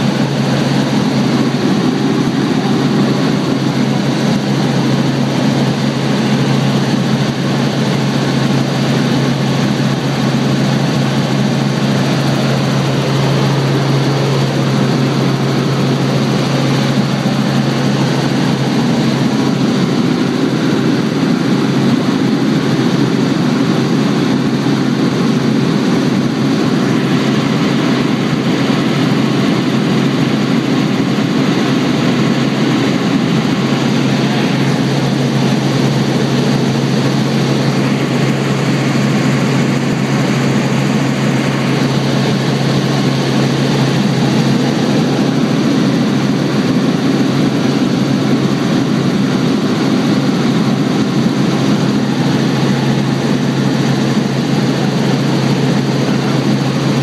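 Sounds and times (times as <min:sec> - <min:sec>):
helicopter engine and rotors humming: 0:00.0 - 0:57.0
rushing airflow: 0:00.0 - 0:57.0.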